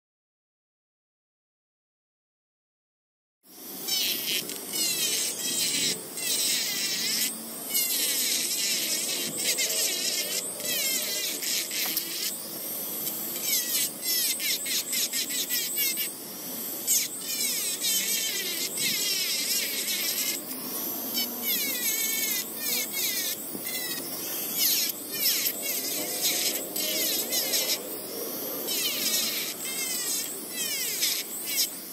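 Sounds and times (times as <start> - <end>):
rotary tool grinding metal: 3.9 - 16.2, 16.8 - 31.9.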